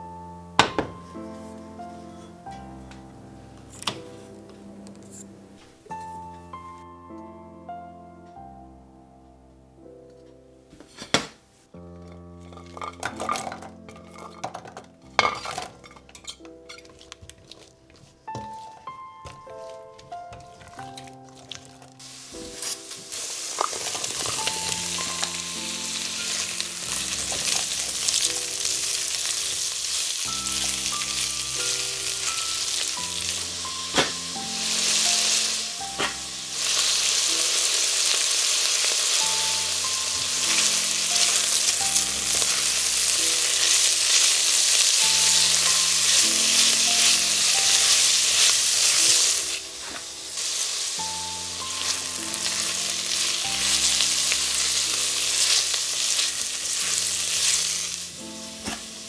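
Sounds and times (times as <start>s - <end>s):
soft background music: 0.0s - 59.0s
shallots and garlic sizzling in oil: 10.8s - 59.0s.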